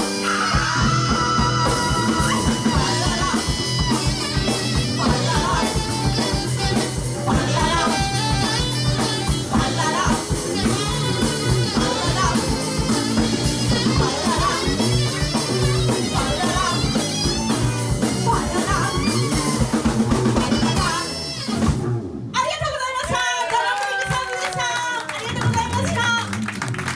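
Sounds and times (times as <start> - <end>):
drum kit beat: 0.0 - 22.0
electric guitar: 0.0 - 22.3
live rock band playing: 0.0 - 22.3.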